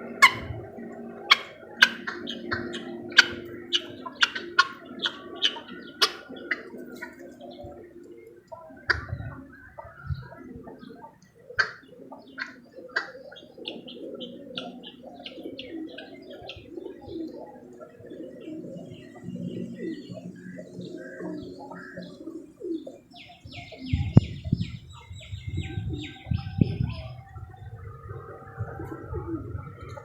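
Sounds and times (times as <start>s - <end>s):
birds chirping: 0.0s - 30.0s
pigeons cooing: 0.0s - 30.0s.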